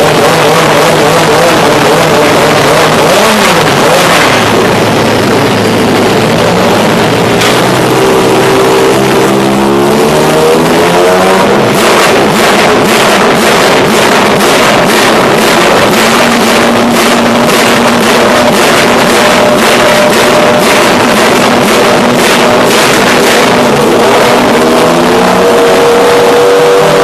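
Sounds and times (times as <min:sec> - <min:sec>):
racing car engine idling: 0:00.0 - 0:27.0.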